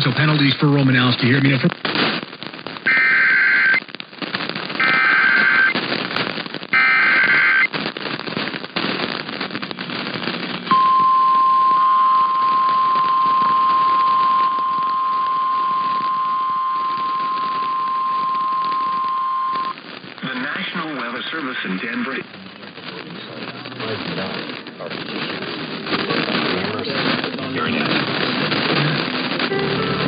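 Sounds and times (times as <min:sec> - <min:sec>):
crackling radio static: 0:00.0 - 0:30.0.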